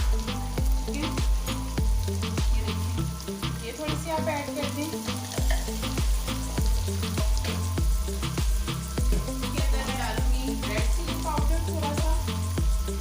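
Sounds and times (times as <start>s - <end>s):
background music with beat: 0.0s - 13.0s
food sizzling in hot oil: 0.0s - 13.0s.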